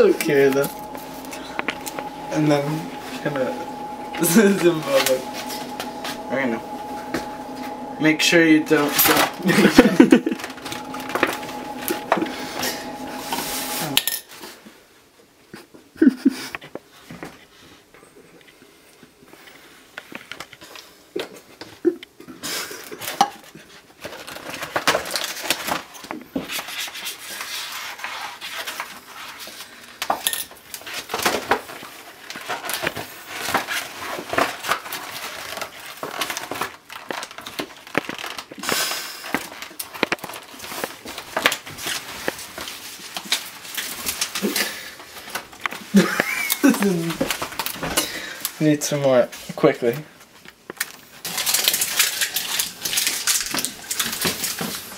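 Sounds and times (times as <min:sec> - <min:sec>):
papers rustling and crinkling: 0:00.0 - 0:07.9, 0:08.8 - 0:15.0, 0:22.6 - 0:30.0, 0:30.6 - 0:54.9.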